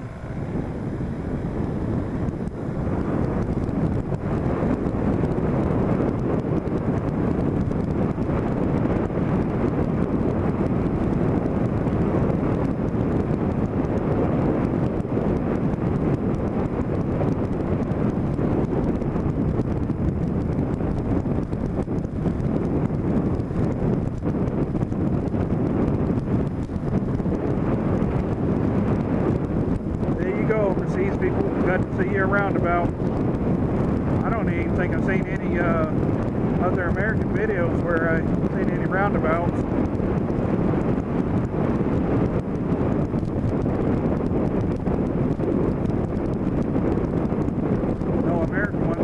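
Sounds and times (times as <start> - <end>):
motorcycle engine: 0.0 - 49.0
road noise: 0.0 - 49.0
wind buffeting microphone: 0.0 - 49.0.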